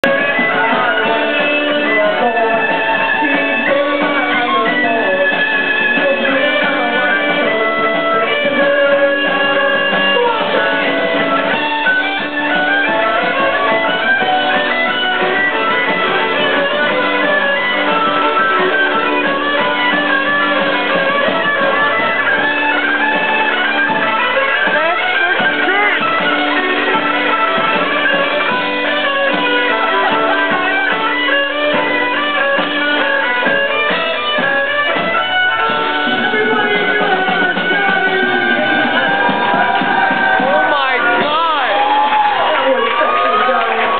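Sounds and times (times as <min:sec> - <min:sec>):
steady beat: 0:00.0 - 0:43.1
band accompaniment: 0:00.0 - 0:43.9
violin playing lead: 0:00.0 - 0:43.9.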